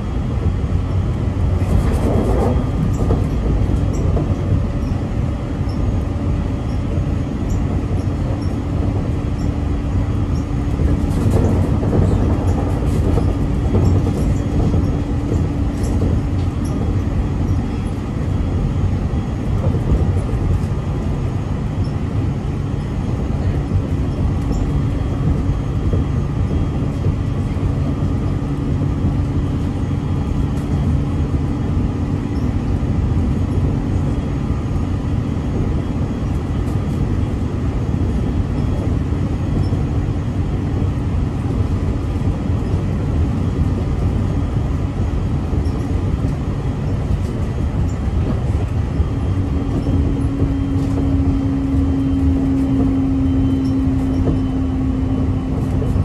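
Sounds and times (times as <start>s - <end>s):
train equipment humming: 0.0s - 56.0s.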